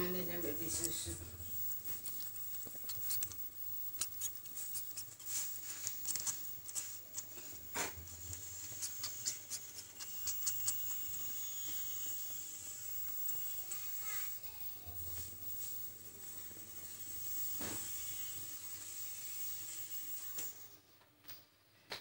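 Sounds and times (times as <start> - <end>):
faint high hiss: 0.0 - 21.0
kitten sucking its paw: 0.6 - 19.6.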